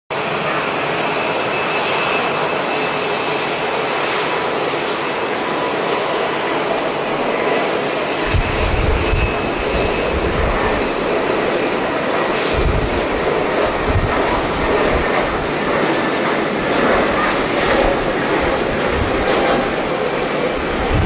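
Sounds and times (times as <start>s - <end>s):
jet engines running: 0.1s - 21.0s
wind buffeting microphone: 3.5s - 21.0s.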